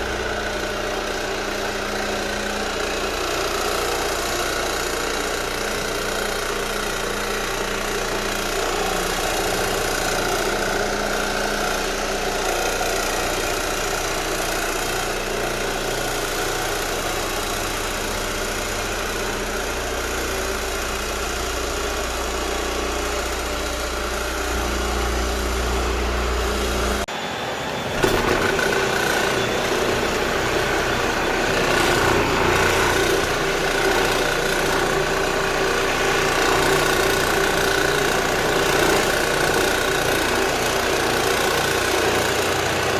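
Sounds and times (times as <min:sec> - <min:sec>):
floor scrubbing machine running: 0:00.0 - 0:42.9.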